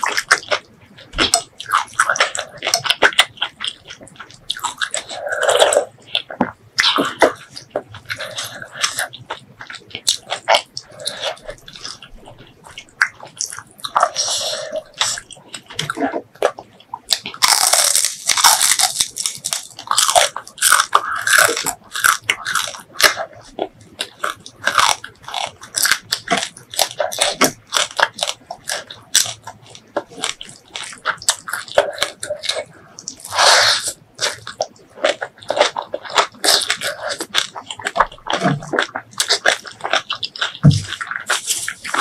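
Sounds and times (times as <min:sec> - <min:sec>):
crunching and chewing food: 0:00.0 - 0:42.0.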